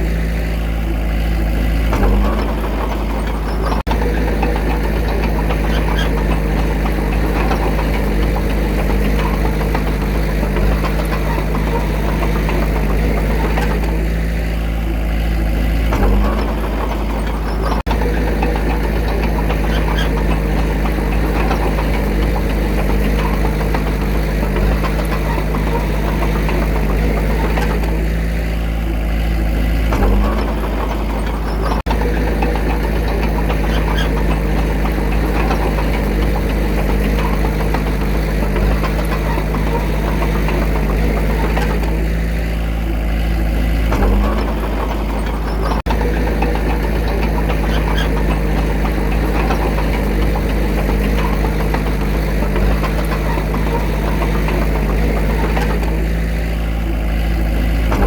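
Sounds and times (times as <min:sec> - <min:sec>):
diesel engine of earthmoving machine: 0:00.0 - 0:58.0
engine knock: 0:00.0 - 0:58.0.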